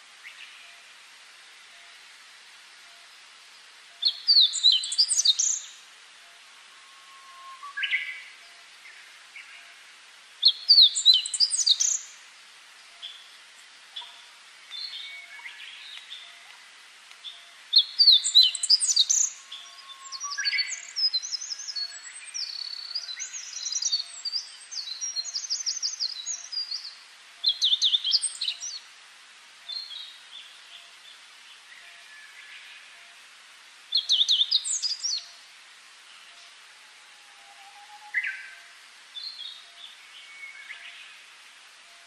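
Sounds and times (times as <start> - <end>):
songbirds chirping and trilling: 1.6 - 28.9, 29.6 - 42.0.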